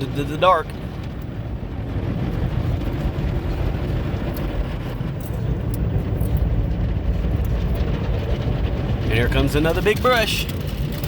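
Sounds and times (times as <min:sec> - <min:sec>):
car wash machinery rumbling: 0:00.0 - 0:11.0.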